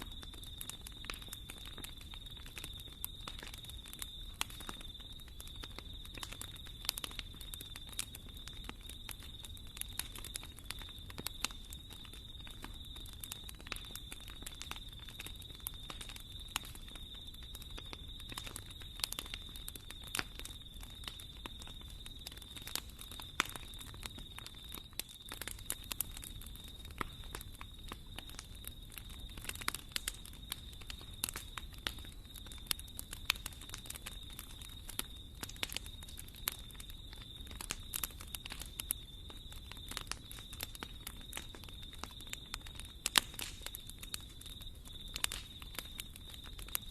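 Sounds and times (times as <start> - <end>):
low fire rumble: 0.0 - 46.9
wood fire crackling and popping: 0.0 - 46.9.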